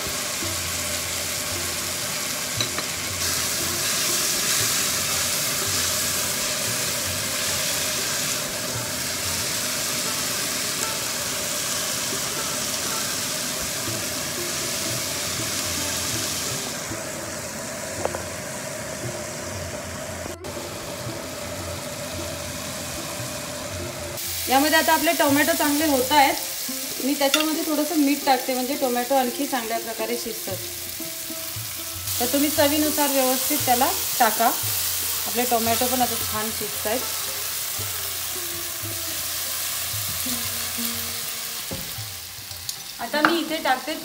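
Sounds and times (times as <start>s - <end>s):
vegetables sizzling in a pan: 0.0s - 44.0s.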